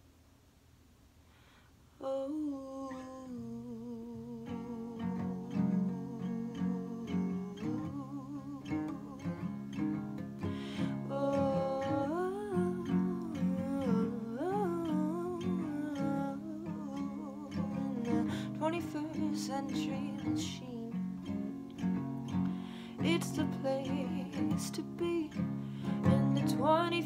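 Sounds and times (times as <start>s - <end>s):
strummed acoustic guitar: 4.4s - 27.0s.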